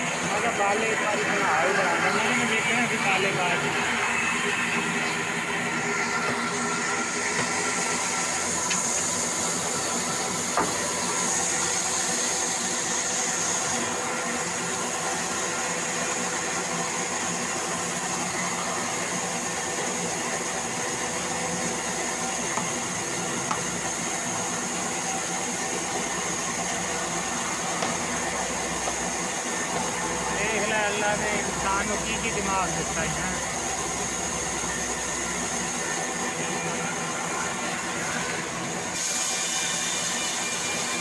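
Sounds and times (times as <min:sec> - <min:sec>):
high saw whine: 0:00.0 - 0:41.0.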